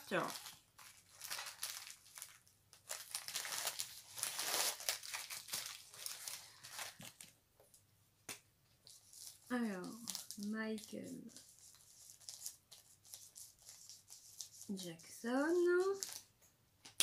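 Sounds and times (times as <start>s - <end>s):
plastic wrapping crinkling: 0.0s - 7.4s, 8.8s - 14.7s, 15.4s - 16.3s.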